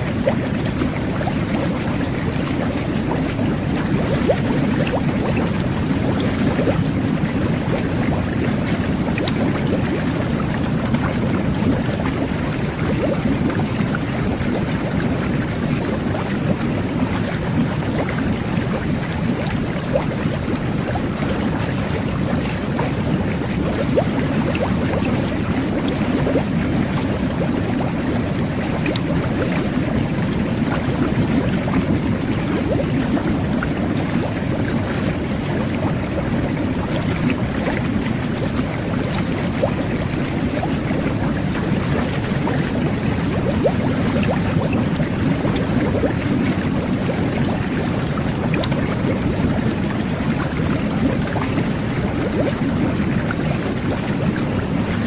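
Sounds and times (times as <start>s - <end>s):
whirlpool jets bubbling water: 0.0s - 55.0s.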